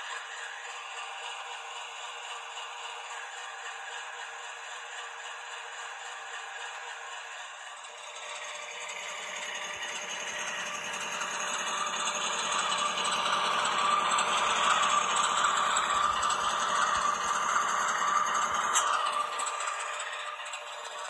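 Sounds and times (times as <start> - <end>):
model train rattling on track: 0.0 - 21.0.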